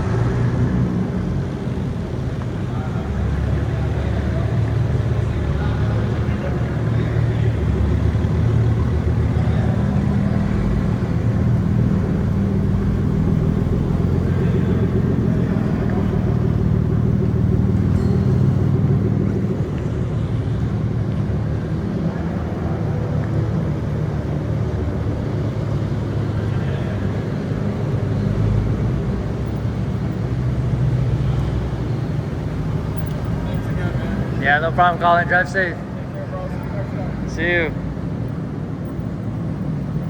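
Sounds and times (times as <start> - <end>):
car engine humming: 0.0 - 40.0.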